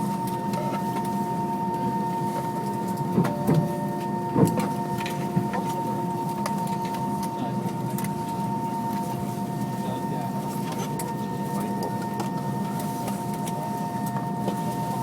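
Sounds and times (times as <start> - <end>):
airplane cabin hum: 0.0 - 15.0.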